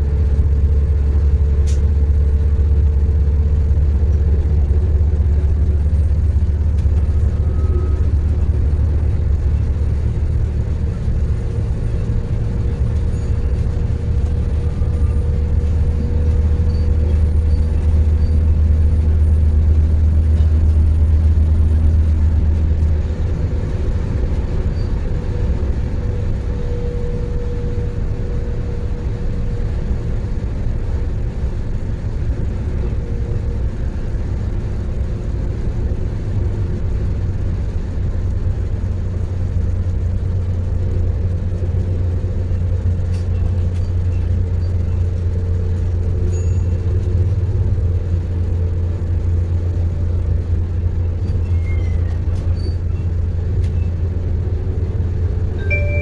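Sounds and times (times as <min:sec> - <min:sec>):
railcar diesel engine rumble: 0:00.0 - 0:56.0.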